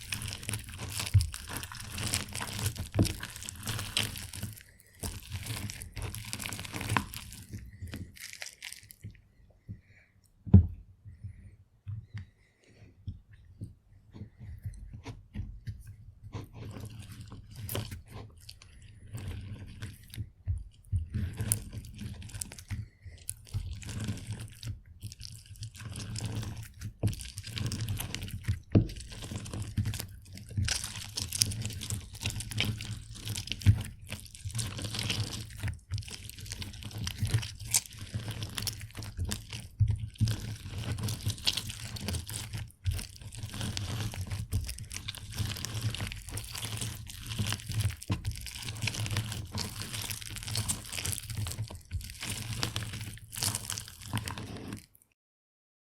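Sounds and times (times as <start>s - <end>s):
orange crunching on a juicer: 0.0s - 9.2s, 16.3s - 55.2s.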